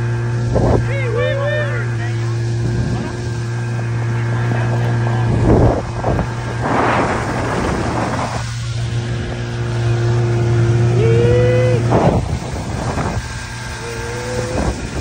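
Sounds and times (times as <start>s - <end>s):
outboard motor running: 0.0s - 15.0s
water rushing past hull: 0.0s - 15.0s
wind gusts on microphone: 0.3s - 1.2s, 2.4s - 15.0s.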